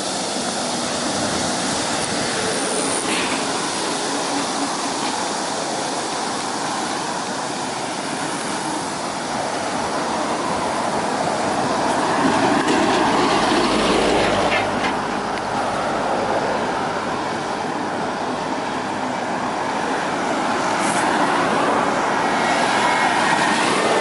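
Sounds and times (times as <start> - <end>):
road traffic: 0.0 - 24.0
small truck approaching: 0.0 - 24.0
wind: 0.0 - 24.0.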